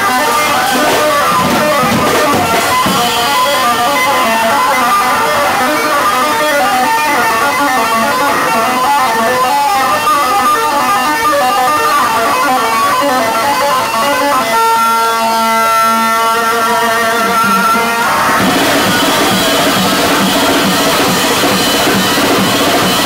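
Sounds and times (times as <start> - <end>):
distorted electric bass guitar: 0.0 - 23.0.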